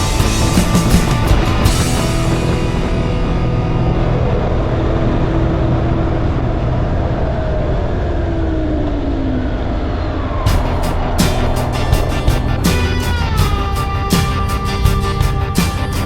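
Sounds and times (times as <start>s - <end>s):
motorcycle engine hum: 0.0s - 9.5s, 10.5s - 16.0s
road and wind noise: 0.0s - 16.0s.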